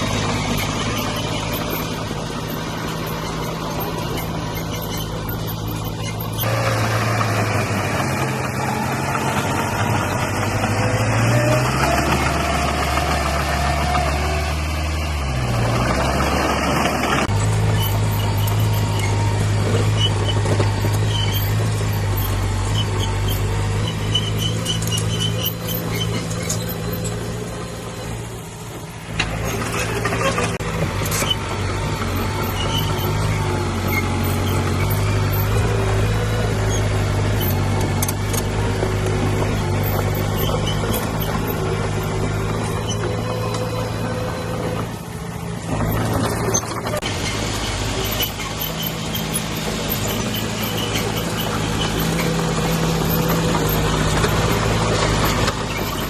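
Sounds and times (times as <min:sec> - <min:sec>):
diesel engine of heavy machinery: 0:00.0 - 0:56.0.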